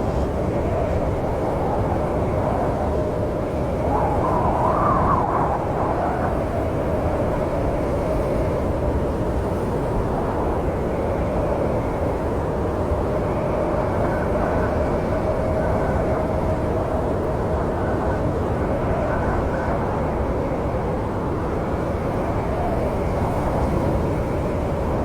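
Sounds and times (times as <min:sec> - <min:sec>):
snowstorm wind rushing and howling: 0:00.0 - 0:25.0.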